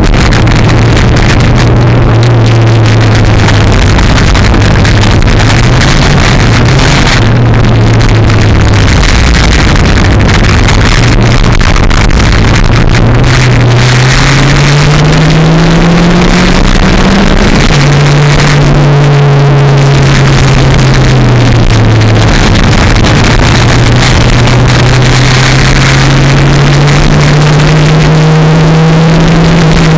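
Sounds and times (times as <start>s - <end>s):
road and wind hiss: 0.0s - 29.9s.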